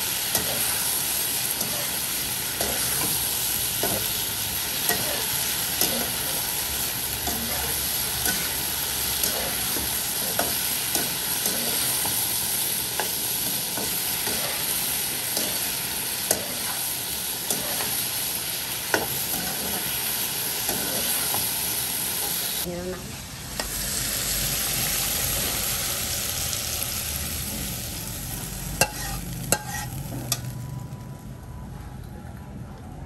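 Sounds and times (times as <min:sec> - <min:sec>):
food sizzling in a wok: 0:00.0 - 0:31.0.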